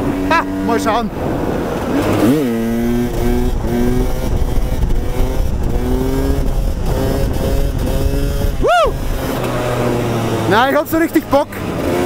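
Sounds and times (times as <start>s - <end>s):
wind on microphone: 0.0s - 10.4s
motorcycle engine running: 0.0s - 12.0s.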